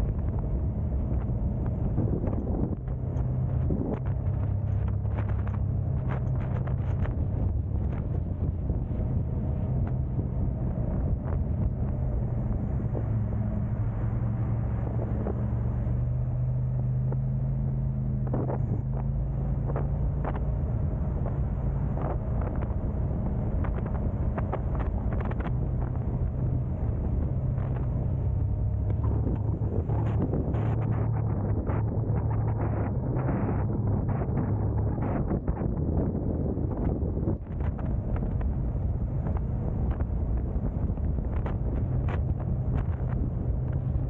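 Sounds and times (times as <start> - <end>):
car engine and road hum: 0.0 - 44.0.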